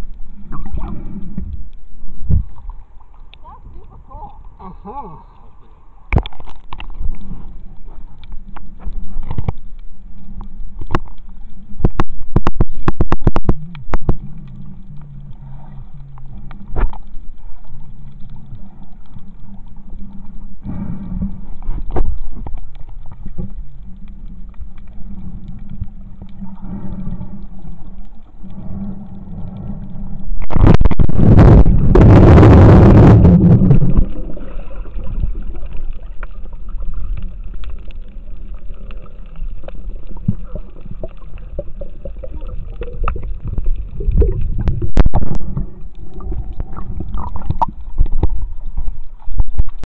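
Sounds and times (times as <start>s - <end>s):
underwater drone: 0.0s - 49.8s.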